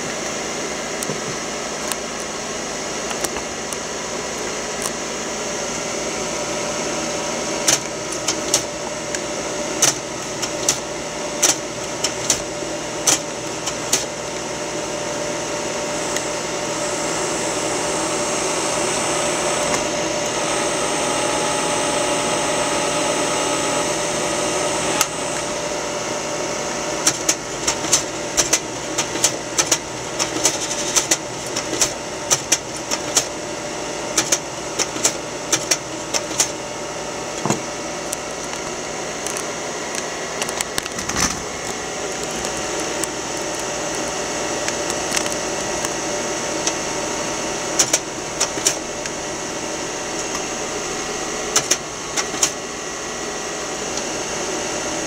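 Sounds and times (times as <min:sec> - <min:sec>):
projector cooling fan whirring: 0:00.0 - 0:55.0.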